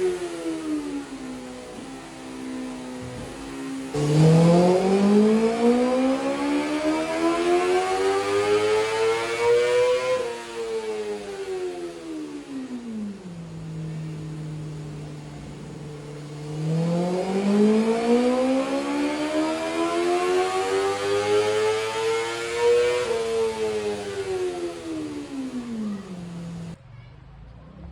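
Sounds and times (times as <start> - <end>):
motorcycle engine revving: 0.0 - 26.8.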